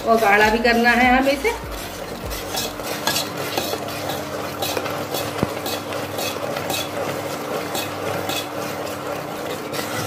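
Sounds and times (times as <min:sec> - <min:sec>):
metal spoon scraping saucepan: 0:00.0 - 0:10.0.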